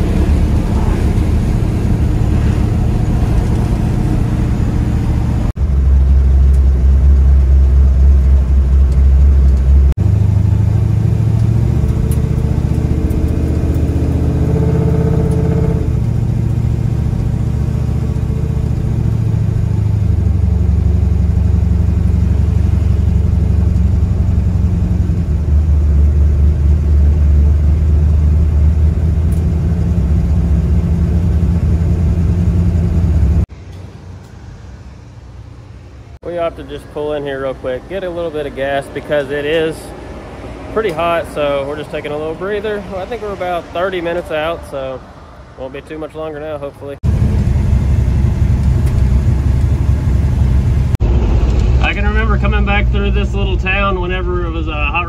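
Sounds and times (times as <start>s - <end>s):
truck engine droning: 0.0s - 55.0s
tyre and road noise: 0.0s - 55.0s.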